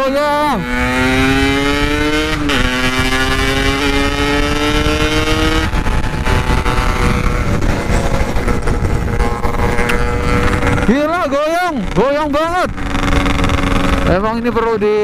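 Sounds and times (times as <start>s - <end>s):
motorcycle engine accelerating: 0.0s - 15.0s
wind on microphone: 0.0s - 15.0s.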